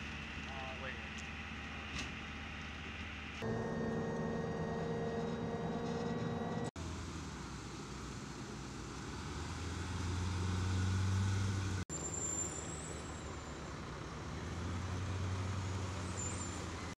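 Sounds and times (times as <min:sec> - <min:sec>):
diesel trucks driving on gravel: 0:00.0 - 0:17.0.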